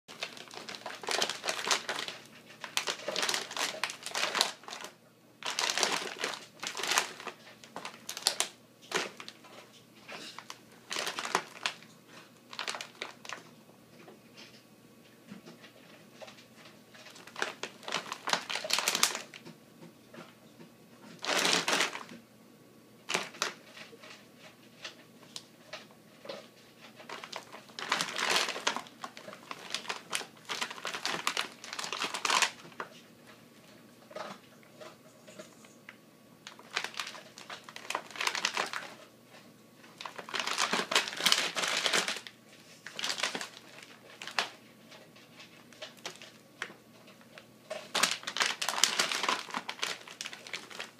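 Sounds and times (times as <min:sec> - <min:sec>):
plastic bag crinkling: 0:00.1 - 0:13.5, 0:15.8 - 0:20.3, 0:21.0 - 0:22.2, 0:23.0 - 0:24.2, 0:24.8 - 0:33.4, 0:34.0 - 0:35.8, 0:36.4 - 0:50.9.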